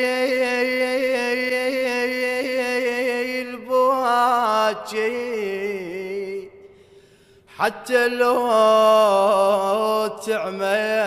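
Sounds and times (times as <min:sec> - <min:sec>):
man singing unaccompanied: 0:00.0 - 0:06.6, 0:07.6 - 0:11.0.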